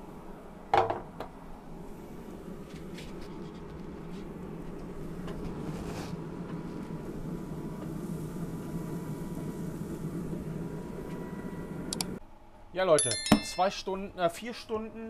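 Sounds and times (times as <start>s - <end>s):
smoker fan humming: 0.0s - 15.0s.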